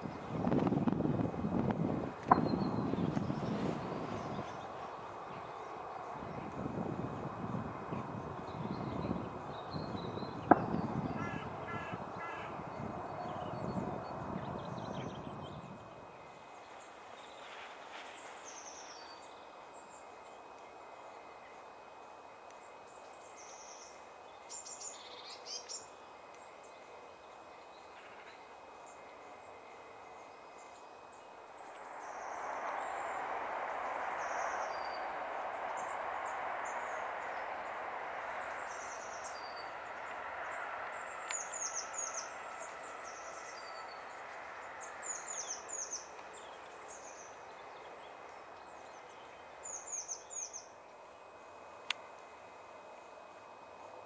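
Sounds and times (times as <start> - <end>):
small birds chirping and twittering: 0.0 - 53.6
steady background noise: 0.0 - 54.0.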